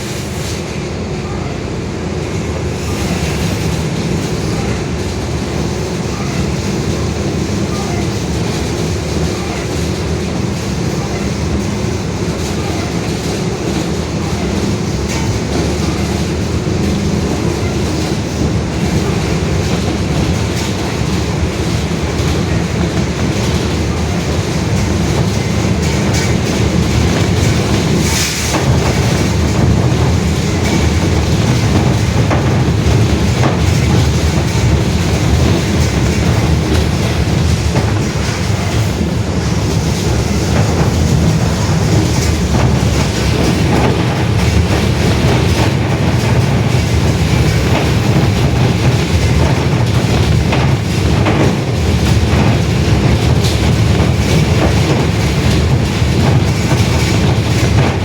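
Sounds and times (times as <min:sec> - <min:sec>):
bus differential roaring: 0:00.0 - 0:58.0.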